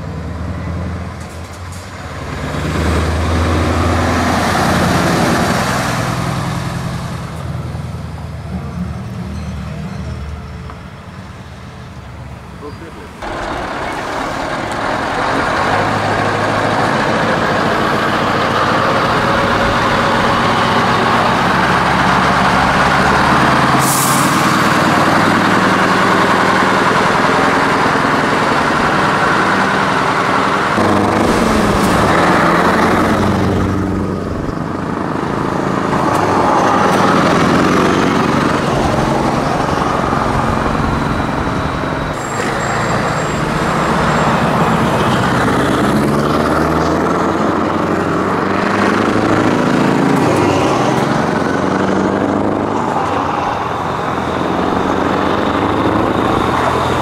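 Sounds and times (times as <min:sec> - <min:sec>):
truck engines revving loudly: 0:00.0 - 0:57.0.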